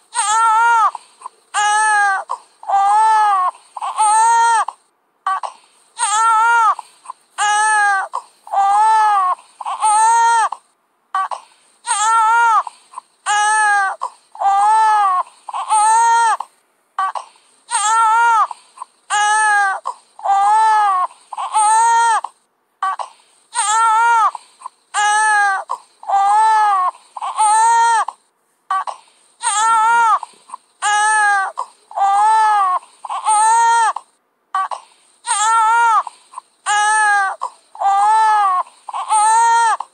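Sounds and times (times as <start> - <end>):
baby crying: 0.1 - 10.6, 11.2 - 39.9.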